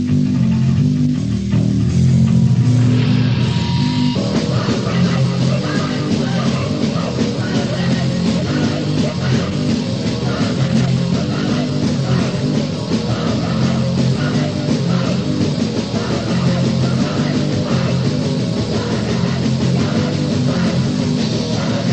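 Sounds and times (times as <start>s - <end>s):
distorted crust punk band: 0.0s - 21.9s.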